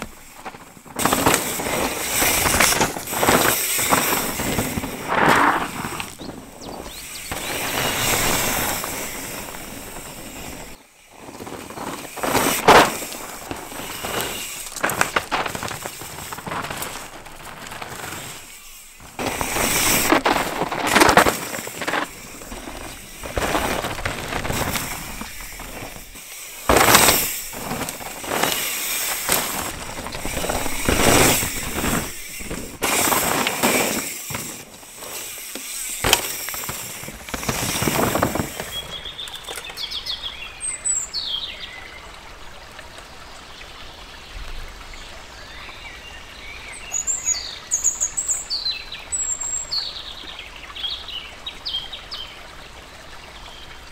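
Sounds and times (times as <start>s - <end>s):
bike tyres skidding on dirt: 0.0s - 53.9s.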